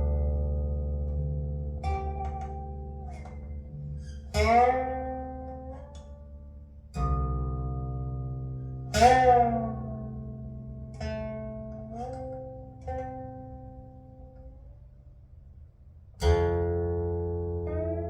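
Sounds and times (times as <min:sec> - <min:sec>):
plucked string notes sliding: 0:00.0 - 0:14.8, 0:16.2 - 0:18.0.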